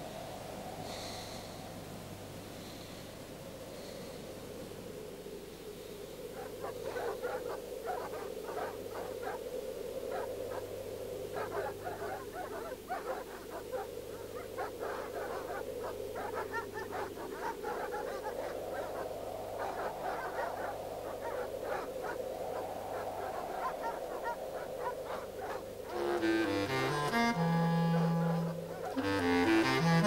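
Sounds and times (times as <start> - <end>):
chorus of frogs croaking: 0.7 - 30.0.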